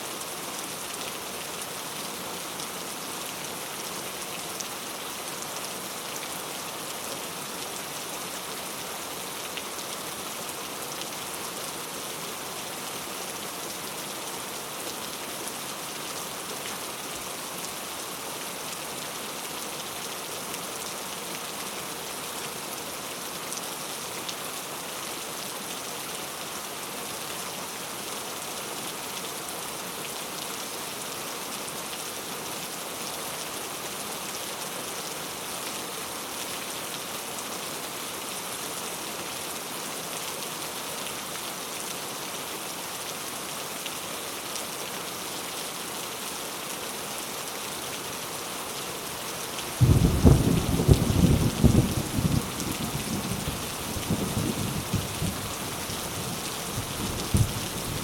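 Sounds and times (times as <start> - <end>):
heavy rain on hard surface: 0.0 - 58.0.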